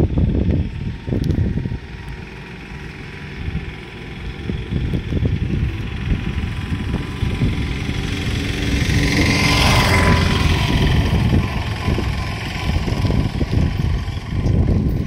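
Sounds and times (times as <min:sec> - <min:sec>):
motor vehicle passing: 0:00.0 - 0:15.0
wind buffeting microphone: 0:00.0 - 0:15.0.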